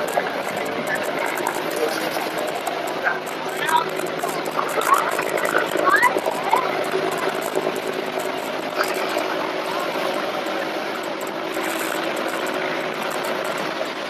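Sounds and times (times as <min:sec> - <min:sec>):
distant helicopter hovering: 0:00.0 - 0:14.0
wind: 0:00.0 - 0:14.0.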